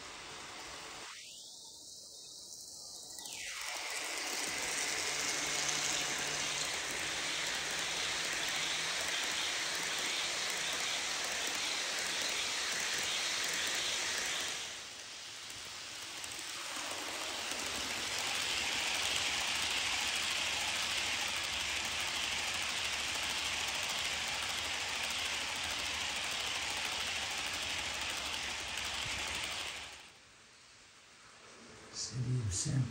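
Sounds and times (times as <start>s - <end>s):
model train wheels on rail: 0.0s - 1.3s, 2.0s - 30.3s.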